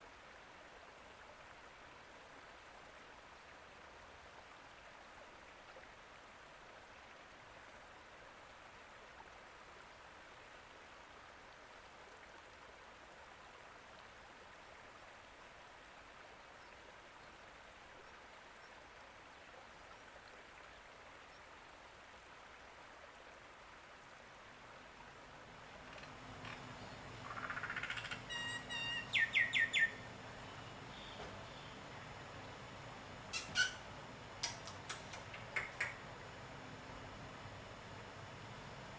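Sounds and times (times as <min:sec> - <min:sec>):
faint rush of water: 0:00.0 - 0:38.9.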